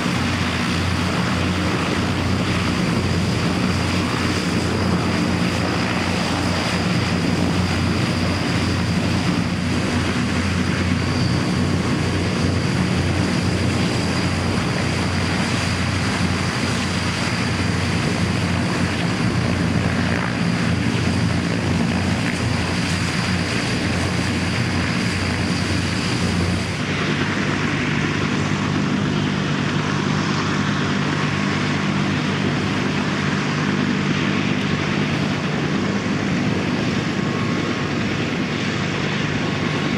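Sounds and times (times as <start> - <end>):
high turbine whine: 0.0 - 39.9
propeller drone: 0.0 - 39.9.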